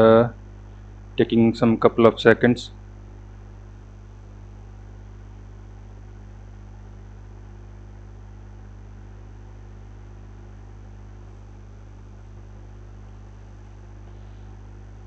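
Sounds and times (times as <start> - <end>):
printer electrical hum and fans: 0.0 - 15.0.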